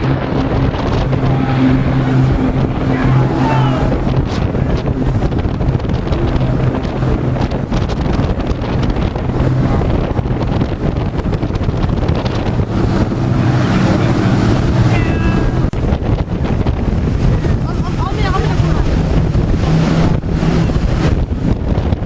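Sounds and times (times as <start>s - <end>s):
piston aircraft engines droning: 0.0s - 22.0s
wind buffeting microphone: 0.0s - 22.0s.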